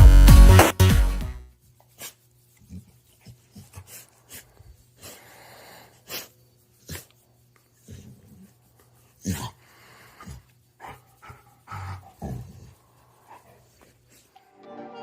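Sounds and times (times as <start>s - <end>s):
dog making breathy sounds: 1.9s - 14.4s.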